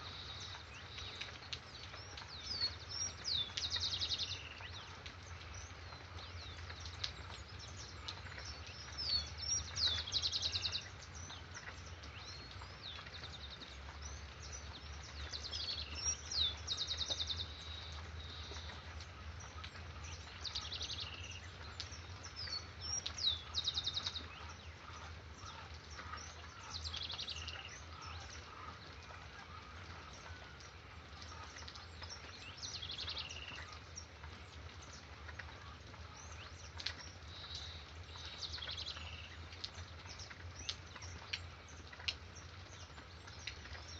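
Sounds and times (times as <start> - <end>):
faint steady background noise: 0.0 - 43.9.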